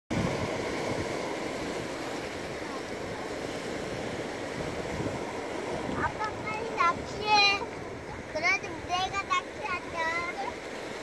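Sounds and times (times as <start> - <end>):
surf breaking on stony shore: 0.1 - 11.0.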